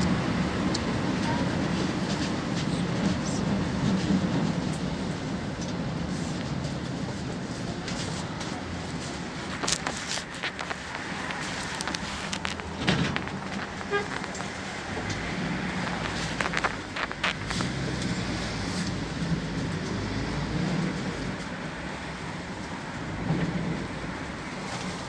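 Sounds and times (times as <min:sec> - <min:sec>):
bus engine running: 0:00.0 - 0:25.0
rattles and clicks from bus body: 0:00.0 - 0:25.0
road noise: 0:00.0 - 0:25.0.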